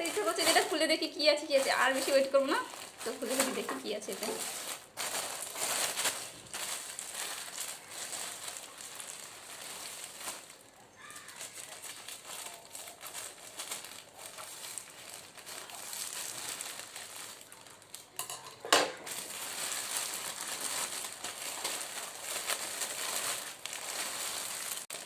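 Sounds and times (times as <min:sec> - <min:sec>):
packaging crinkling and tearing: 0:00.0 - 0:18.2, 0:19.0 - 0:25.0.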